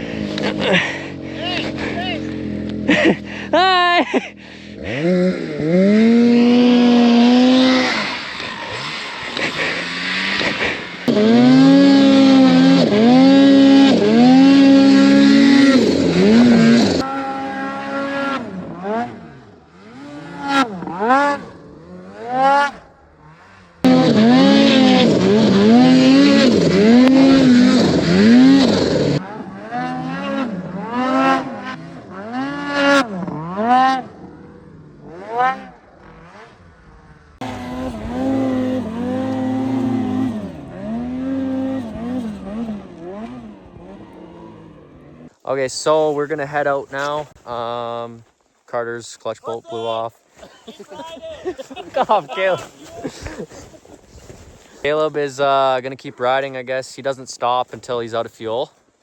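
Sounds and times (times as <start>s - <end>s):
snowmobile engine revving: 0.0s - 48.1s, 48.9s - 58.7s.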